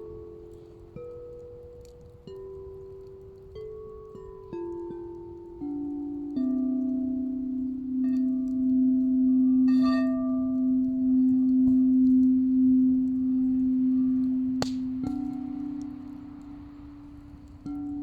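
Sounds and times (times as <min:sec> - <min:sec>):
singing bowl hum: 0:02.3 - 0:18.0.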